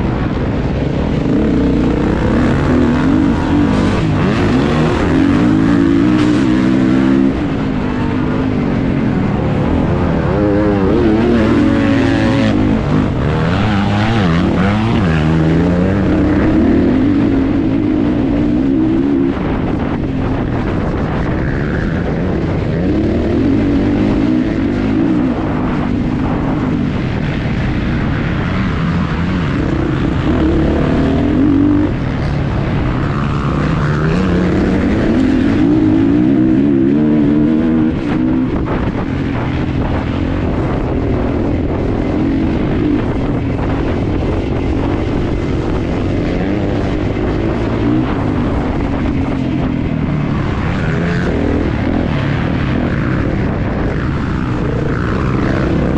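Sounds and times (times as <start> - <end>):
motocross engine revving: 0.0 - 27.4, 28.4 - 53.2
wind on microphone: 0.0 - 55.9.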